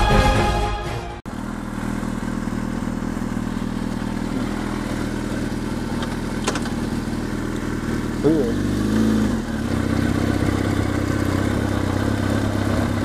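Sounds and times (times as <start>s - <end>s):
motorcycle engine idling: 1.3s - 13.0s.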